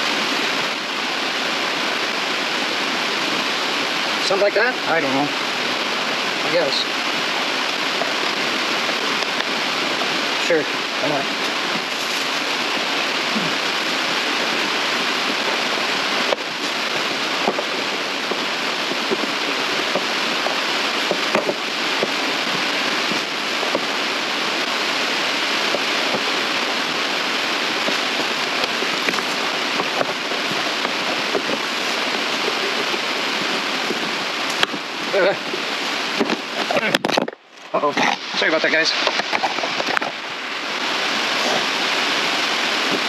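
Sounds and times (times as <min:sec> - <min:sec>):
steady rushing hiss: 0:00.0 - 0:43.0.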